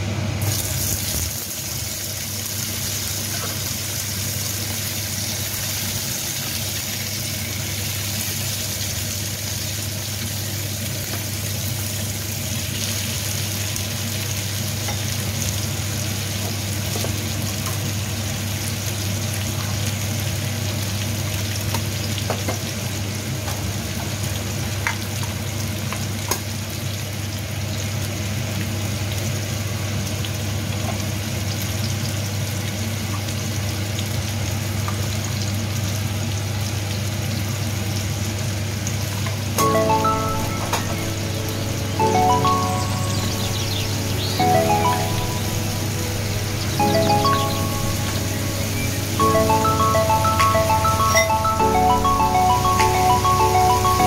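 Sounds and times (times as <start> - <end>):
tomatoes sizzling in oil: 0.4 - 50.2.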